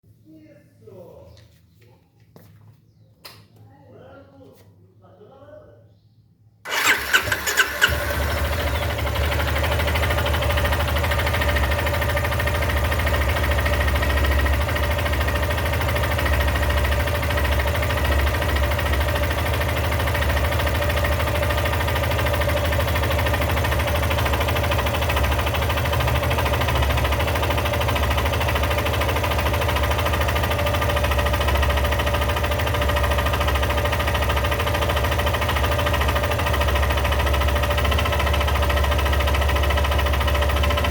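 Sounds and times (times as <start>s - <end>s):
motorcycle engine starting and idling: 6.6s - 40.9s.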